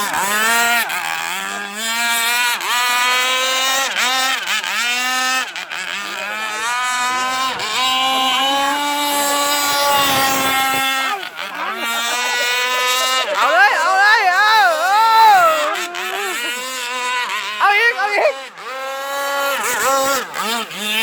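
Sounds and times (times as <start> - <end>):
model boat engine revving: 0.0 - 21.0.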